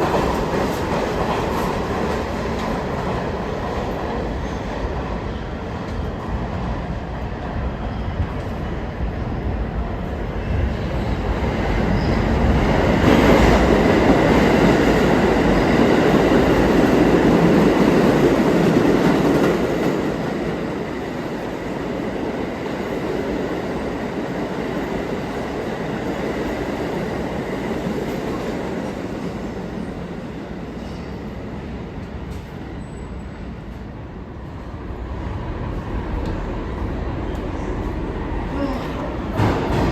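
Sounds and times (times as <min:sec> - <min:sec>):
subway train rumble: 0:00.0 - 0:39.9.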